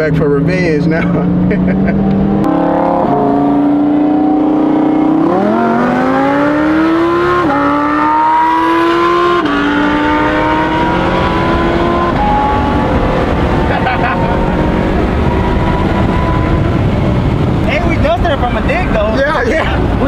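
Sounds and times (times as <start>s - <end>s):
car engine accelerating with upshifts: 0.0s - 20.0s.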